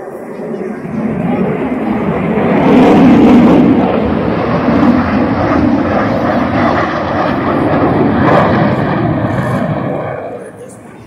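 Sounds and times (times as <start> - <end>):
jet fighters roaring past: 0.0 - 11.0.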